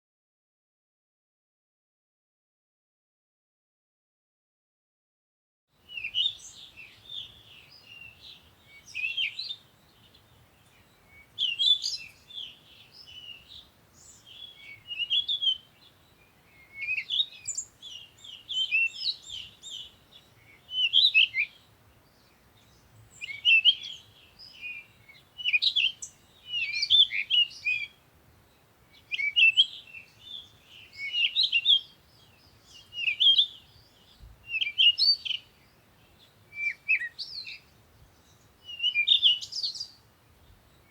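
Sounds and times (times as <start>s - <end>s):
songbird warbling: 5.9s - 40.9s.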